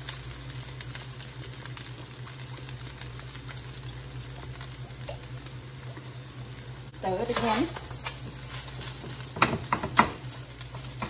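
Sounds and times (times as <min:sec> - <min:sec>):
rice sizzling in a wok: 0:00.0 - 0:11.0.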